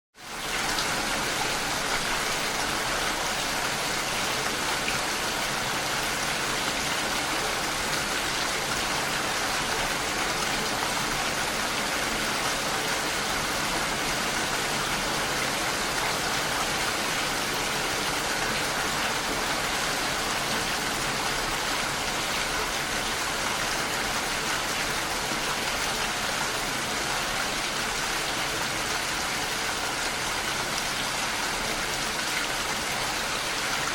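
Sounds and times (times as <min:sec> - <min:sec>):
heavy rain: 0:00.2 - 0:33.9.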